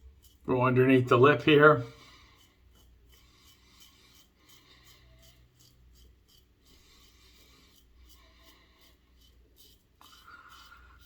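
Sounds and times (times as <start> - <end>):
razor scraping stubble: 0.0 - 11.0.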